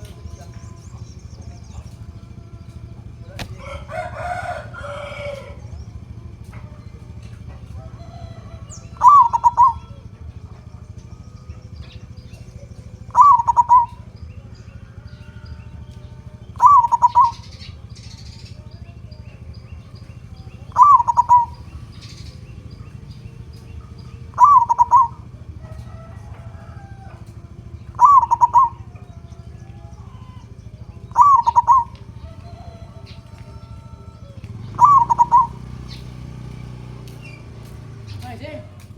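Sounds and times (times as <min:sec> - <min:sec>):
dove cooing: 0:00.0 - 0:38.8
steady low hum: 0:00.0 - 0:38.9.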